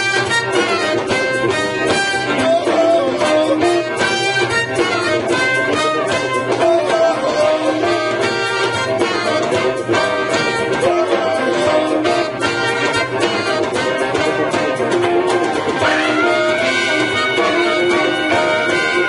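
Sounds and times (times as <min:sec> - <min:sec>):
brass horns melody: 0:00.0 - 0:19.0
rhythm section: 0:00.0 - 0:19.0.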